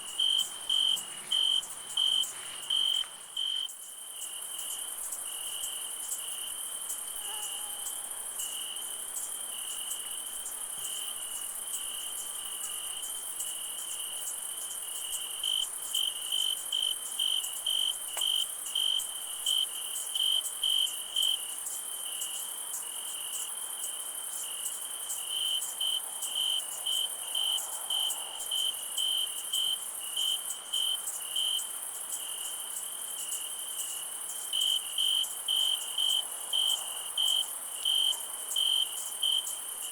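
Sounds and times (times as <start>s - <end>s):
cricket trilling and chirping: 0.0s - 39.9s
high-pitched insect hiss: 0.0s - 39.9s.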